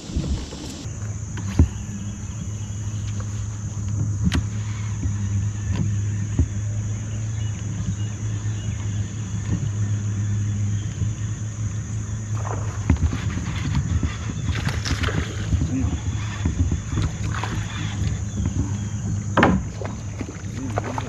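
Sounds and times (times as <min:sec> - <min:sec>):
electric motor humming: 0:00.0 - 0:20.5.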